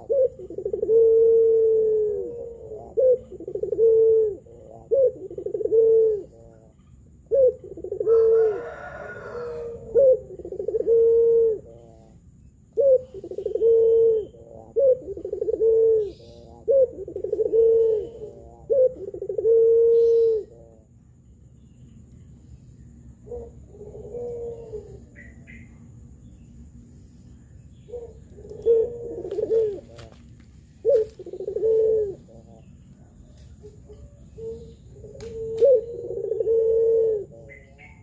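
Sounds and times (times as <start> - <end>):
dove cooing: 0.0 - 21.0, 22.9 - 38.0.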